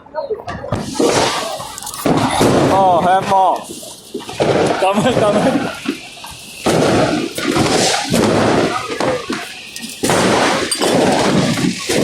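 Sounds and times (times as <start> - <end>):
firecrackers crackling: 0.4 - 12.0.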